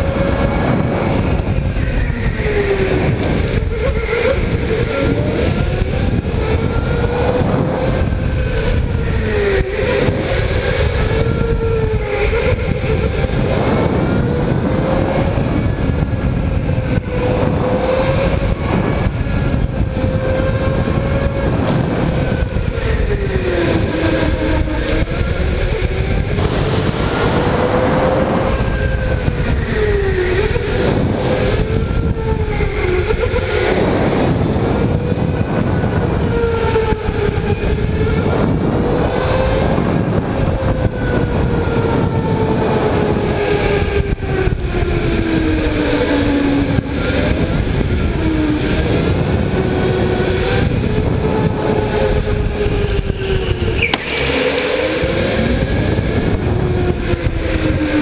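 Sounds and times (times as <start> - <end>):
electric go-kart motor whining: 0.0 - 58.0.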